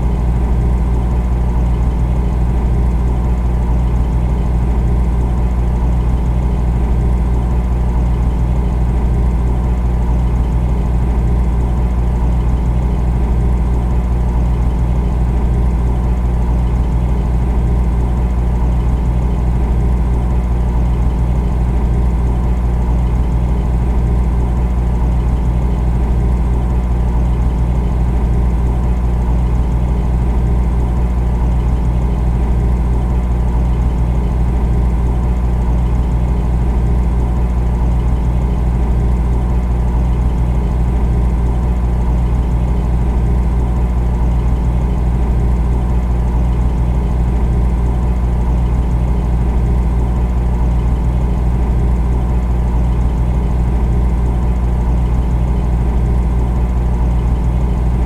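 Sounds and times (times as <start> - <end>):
refrigerator humming: 0.0 - 58.0.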